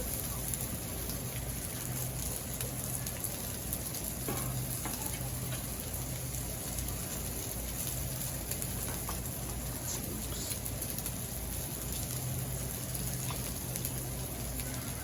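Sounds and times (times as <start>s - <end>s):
sizzling on griddle: 0.0s - 15.0s.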